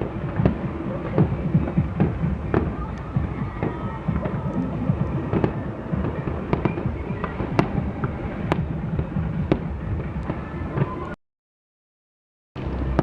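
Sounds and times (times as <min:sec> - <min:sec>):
fireworks bangs and crackles: 0:00.0 - 0:11.2, 0:12.6 - 0:13.0
fireworks bursts: 0:00.0 - 0:11.2.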